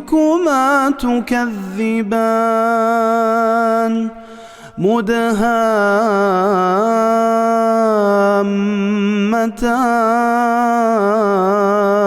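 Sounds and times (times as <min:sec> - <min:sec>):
man chanting melodic recitation: 0:00.0 - 0:12.0.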